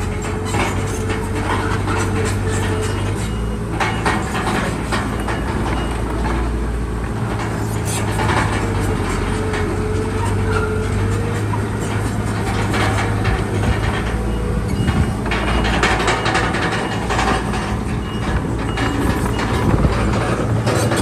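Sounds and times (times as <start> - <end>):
bulldozer diesel engine running: 0.0 - 21.0
squealing tracks: 0.0 - 21.0
metallic clanks: 0.1 - 21.0.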